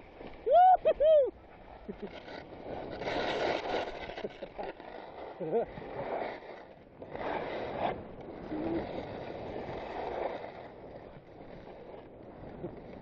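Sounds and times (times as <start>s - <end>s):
skis scraping over packed snow: 0.0s - 13.0s.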